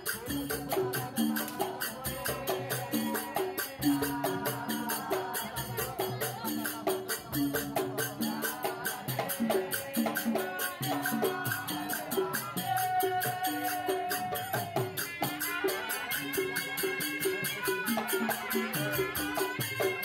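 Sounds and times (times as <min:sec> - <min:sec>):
rattling percussion: 0:00.0 - 0:20.0.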